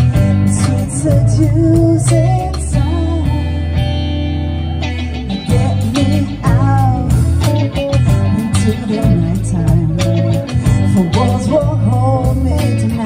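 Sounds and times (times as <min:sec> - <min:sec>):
person singing: 0:00.0 - 0:03.8, 0:05.3 - 0:13.0
bass guitar: 0:00.0 - 0:13.0
drum kit: 0:00.0 - 0:13.0
electric guitar: 0:00.0 - 0:13.0.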